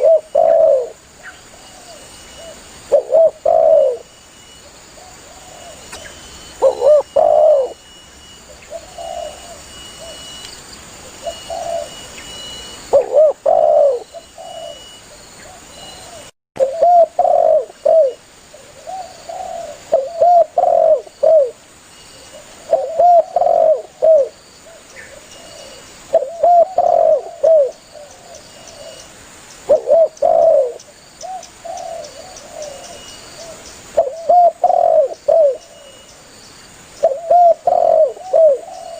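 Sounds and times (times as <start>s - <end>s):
dove cooing: 0.0s - 4.1s, 5.0s - 7.8s, 8.5s - 10.3s, 11.0s - 12.1s, 12.9s - 21.6s, 22.3s - 29.1s, 29.7s - 36.0s, 37.0s - 38.9s.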